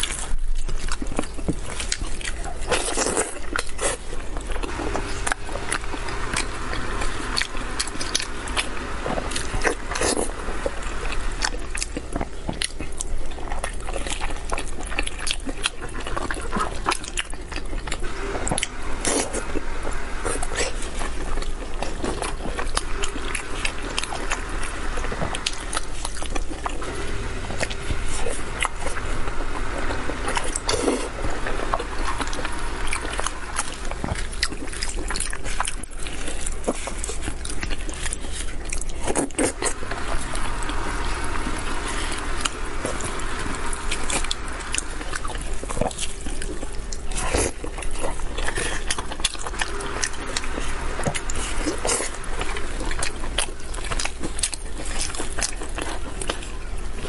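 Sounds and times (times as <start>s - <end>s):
wet chewing and lip-smacking: 0.0s - 57.0s.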